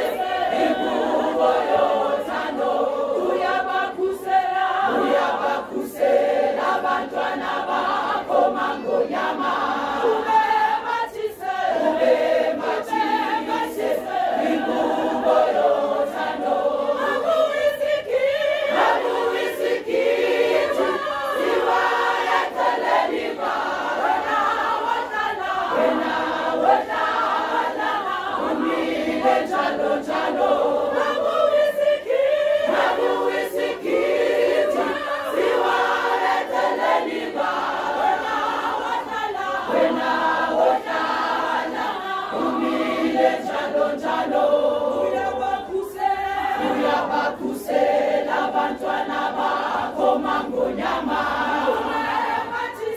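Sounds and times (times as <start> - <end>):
women's choir singing: 0.0 - 52.9.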